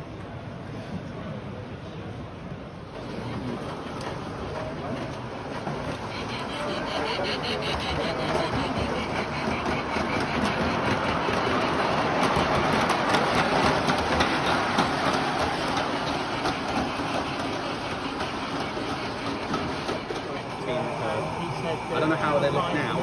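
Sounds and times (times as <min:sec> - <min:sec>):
model train running on track: 0:00.0 - 0:23.0
steady background noise: 0:00.0 - 0:23.0.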